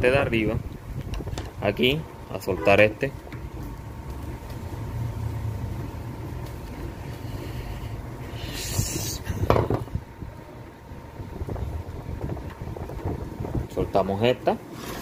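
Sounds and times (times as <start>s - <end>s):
low steady hum: 0.0s - 14.8s.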